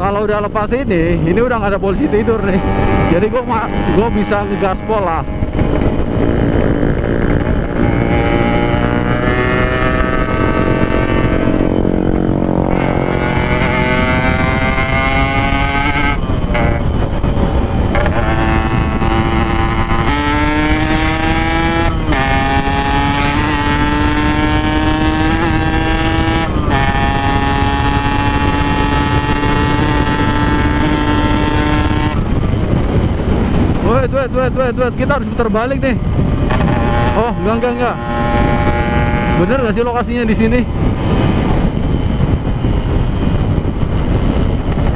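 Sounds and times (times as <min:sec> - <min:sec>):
motorcycle engine at full throttle: 0:00.0 - 0:44.9.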